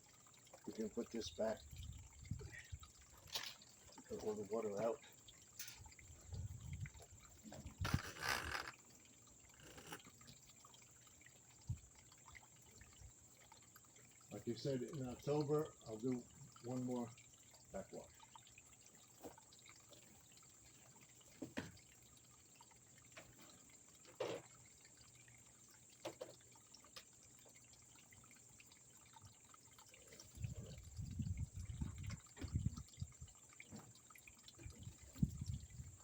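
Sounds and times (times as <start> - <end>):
water trickling and dripping: 0.0 - 36.0.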